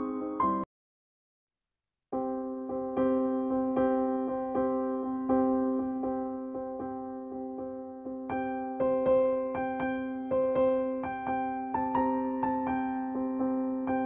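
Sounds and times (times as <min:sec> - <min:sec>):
gentle piano-like keyboard notes: 0:00.0 - 0:00.7, 0:02.2 - 0:14.0.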